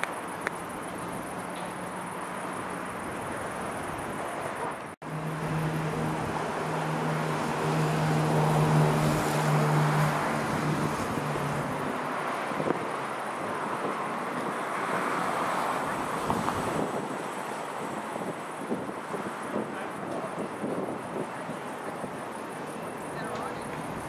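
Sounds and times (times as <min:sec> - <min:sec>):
wind noise on microphone: 0:03.1 - 0:24.0.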